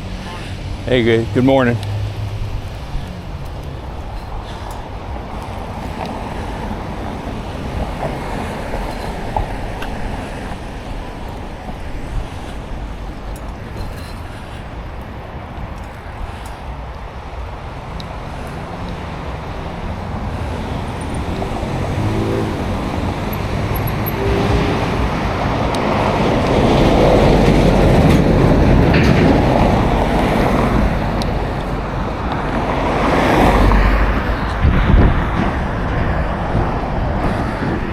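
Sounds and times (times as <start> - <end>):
rushing noise of bicycle ride: 0.0 - 37.9.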